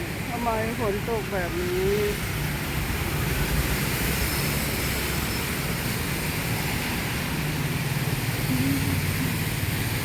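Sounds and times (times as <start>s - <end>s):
rain falling: 0.0s - 10.0s
road traffic rumble: 0.0s - 10.0s.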